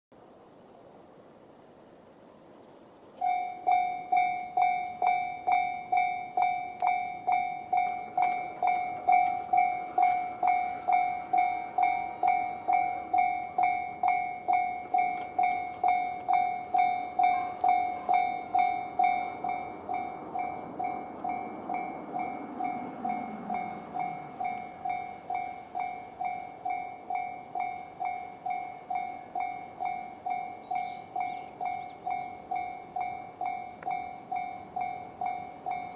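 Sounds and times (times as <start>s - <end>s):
level-crossing warning bell: 3.2s - 35.9s.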